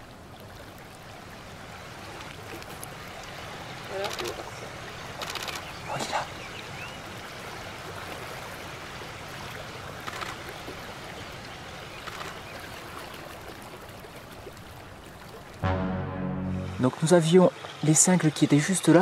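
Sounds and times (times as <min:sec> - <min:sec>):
running water rushing: 0:00.0 - 0:15.6.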